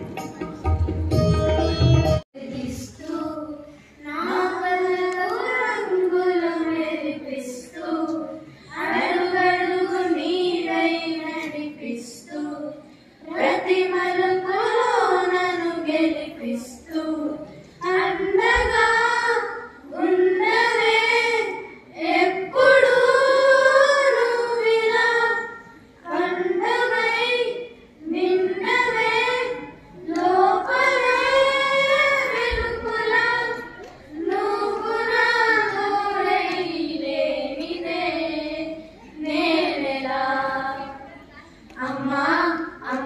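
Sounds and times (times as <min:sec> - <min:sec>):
girls singing into microphone: 0:02.4 - 0:43.0.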